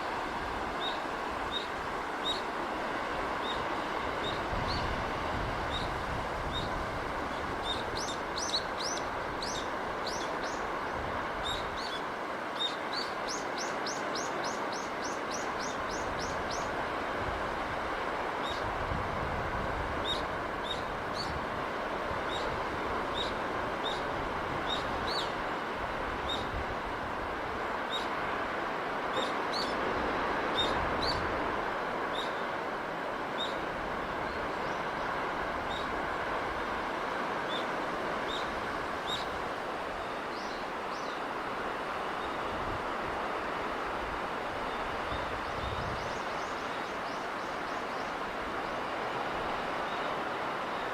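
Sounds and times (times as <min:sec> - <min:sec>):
sea wash: 0:00.0 - 0:50.9.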